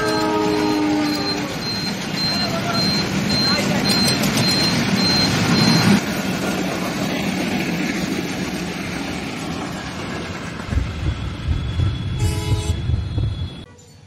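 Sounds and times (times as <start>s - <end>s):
train wheels rumbling on track: 0.0s - 13.7s.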